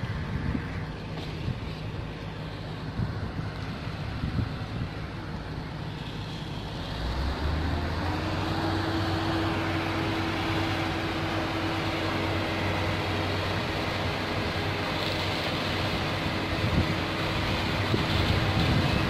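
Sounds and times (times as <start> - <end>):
wind buffeting microphone: 0.0 - 5.6, 8.1 - 19.0
heavy engine droning: 0.0 - 19.0.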